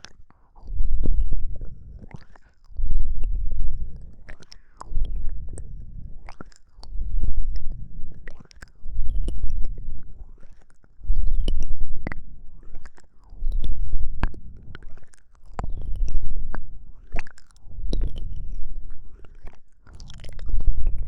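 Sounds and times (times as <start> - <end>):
wet lip and tongue clicks: 0.0 - 21.0.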